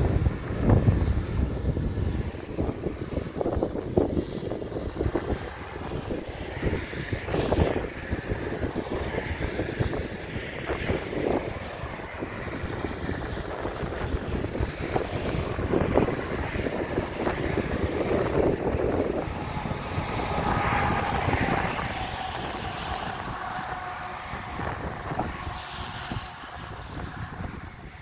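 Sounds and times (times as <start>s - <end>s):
road traffic rushing: 0.0s - 28.0s
wind buffeting microphone: 0.0s - 28.0s.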